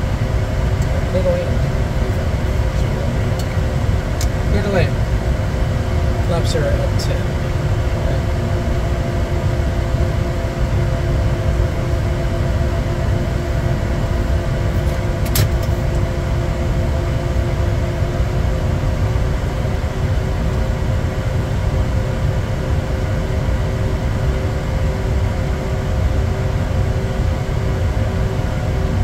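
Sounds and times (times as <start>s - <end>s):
airflow rumble in cabin: 0.0s - 29.0s
jet engine hum: 0.0s - 29.0s.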